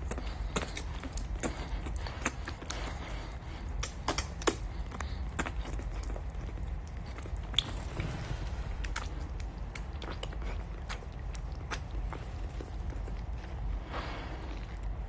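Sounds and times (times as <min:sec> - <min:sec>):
wet mouth smacking: 0:00.0 - 0:08.0, 0:08.9 - 0:13.7
low steady hum: 0:00.0 - 0:15.0.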